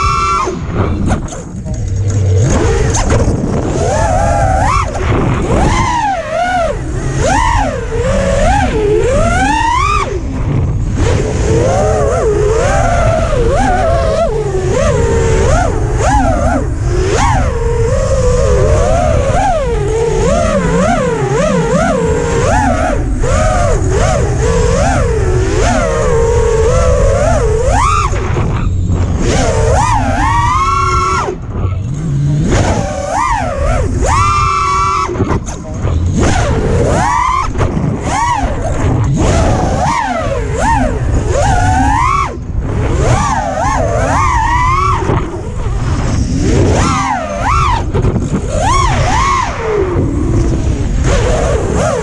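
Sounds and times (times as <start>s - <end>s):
drone motors whining: 0.0s - 52.0s
wind rush on microphone: 0.0s - 52.0s.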